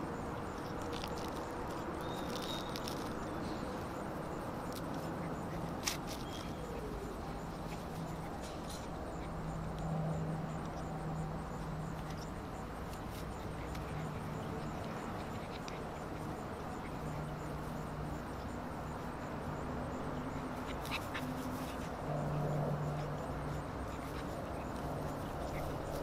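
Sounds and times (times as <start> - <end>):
puppies playing and yelping: 0.0 - 26.0.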